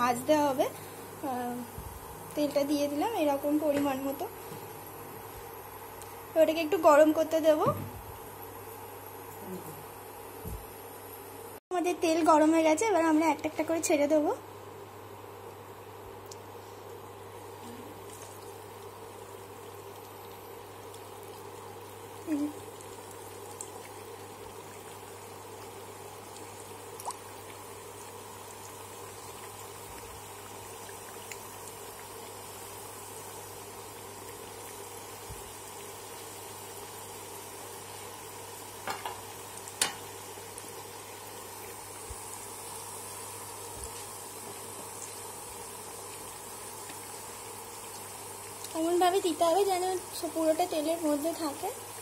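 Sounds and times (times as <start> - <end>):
oil sizzling and bubbling: 0.0 - 52.0.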